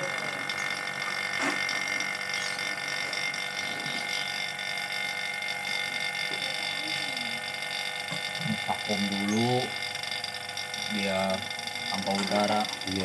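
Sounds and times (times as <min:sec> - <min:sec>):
vacuum pump running: 0:00.0 - 0:13.0.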